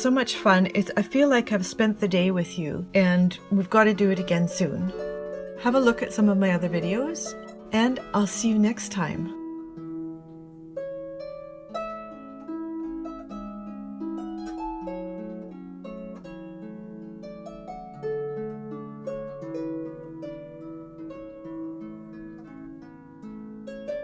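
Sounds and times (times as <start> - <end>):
gentle plucked-string music: 0.0 - 24.0.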